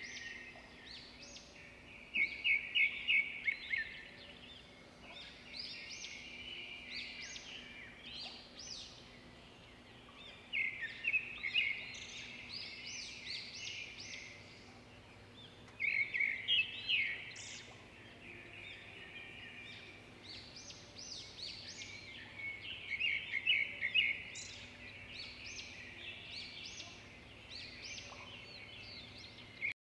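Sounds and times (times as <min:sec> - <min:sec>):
small birds chirping: 0:00.0 - 0:29.8.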